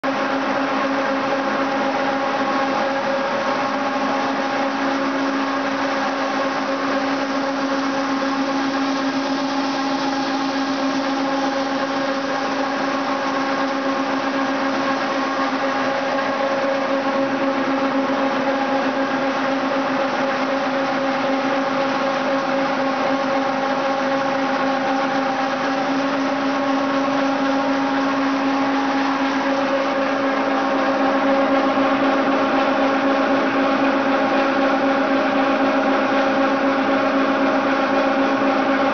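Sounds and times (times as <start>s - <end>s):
machinery droning: 1.8s - 36.4s.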